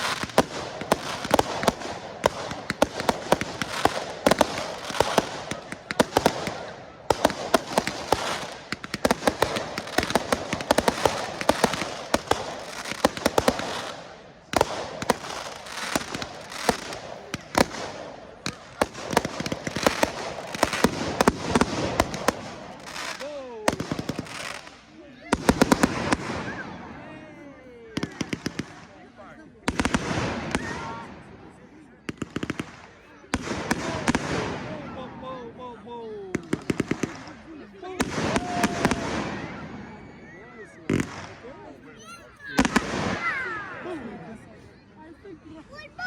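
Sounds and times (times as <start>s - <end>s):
fireworks cracking and banging: 0.0s - 27.0s, 28.0s - 31.3s, 32.0s - 35.0s, 36.3s - 39.7s, 40.8s - 43.8s.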